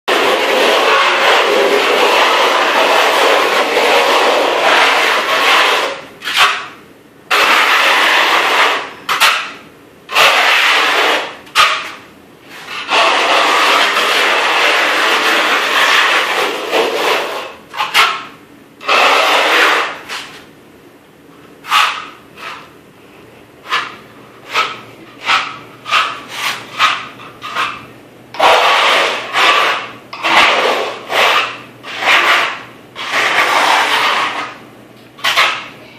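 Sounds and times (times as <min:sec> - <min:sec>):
block scraping gritty floor: 0:00.1 - 0:20.5, 0:21.6 - 0:22.8, 0:23.6 - 0:34.6, 0:35.2 - 0:35.8.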